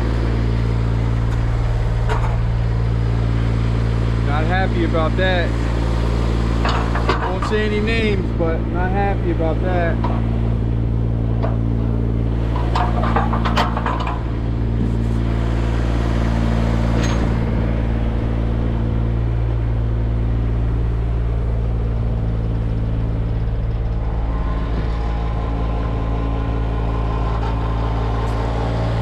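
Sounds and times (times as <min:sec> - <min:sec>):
engine running: 0:00.0 - 0:29.0
clanks and rattles: 0:01.1 - 0:03.1, 0:06.4 - 0:20.4, 0:21.2 - 0:29.0.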